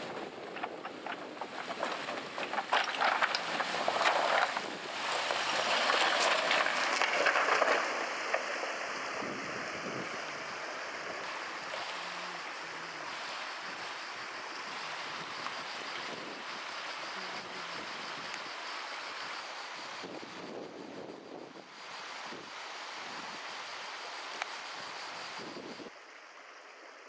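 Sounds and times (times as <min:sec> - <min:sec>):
stream rushing: 0:00.0 - 0:20.3, 0:21.6 - 0:27.0.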